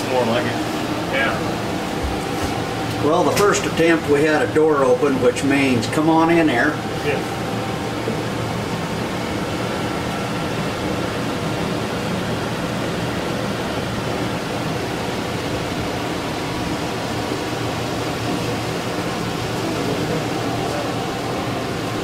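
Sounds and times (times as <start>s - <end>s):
fan rushing air with motor hum: 0.0s - 22.0s.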